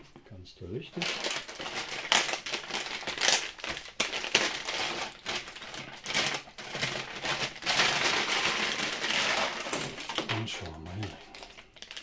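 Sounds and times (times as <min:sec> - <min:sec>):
plastic bag crinkling: 0:00.9 - 0:12.0.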